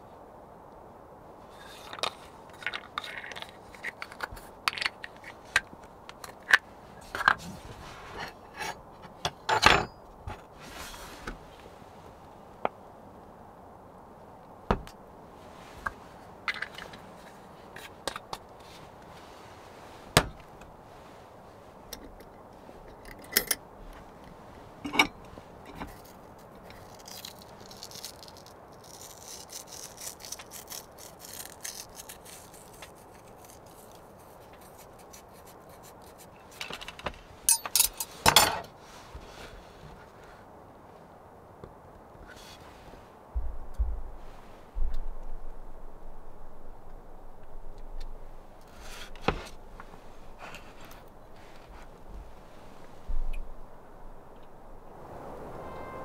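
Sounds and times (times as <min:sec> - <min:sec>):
faint steady background noise: 0:00.0 - 0:56.0.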